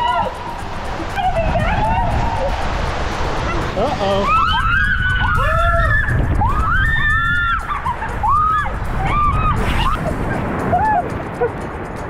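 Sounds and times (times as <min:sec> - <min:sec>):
riders screaming and whooping: 0:00.0 - 0:11.6
low rushing noise: 0:00.0 - 0:12.0.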